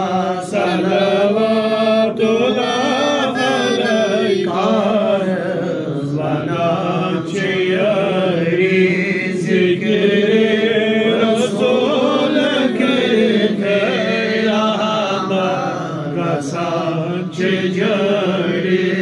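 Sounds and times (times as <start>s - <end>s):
man chanting into microphone: 0.0s - 19.0s.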